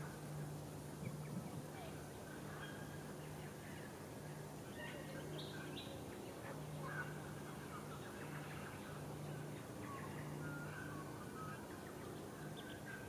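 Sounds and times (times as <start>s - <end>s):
small birds chirping: 1.0s - 13.0s.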